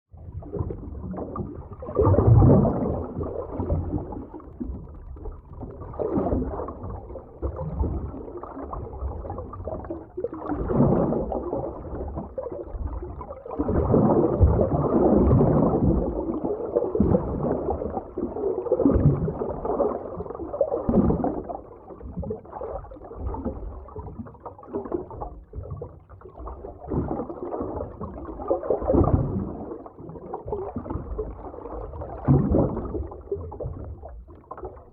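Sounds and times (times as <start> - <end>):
muffled underwater rushing water: 0.1 - 34.9
underwater bubbling: 0.1 - 34.9.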